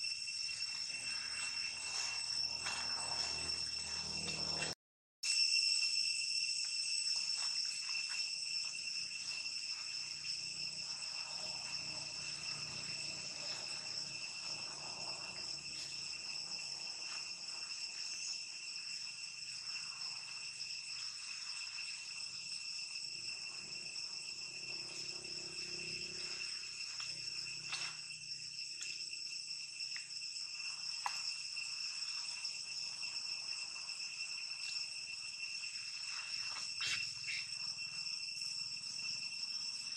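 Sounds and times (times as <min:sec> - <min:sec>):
insect chorus droning: 0:00.0 - 0:39.9.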